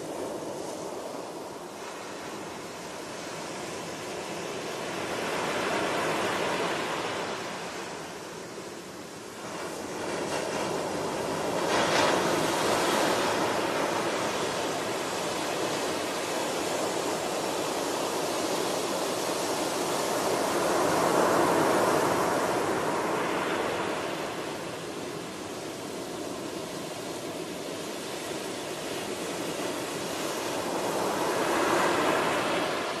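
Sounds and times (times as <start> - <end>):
waves breaking on a beach: 0.0 - 33.0.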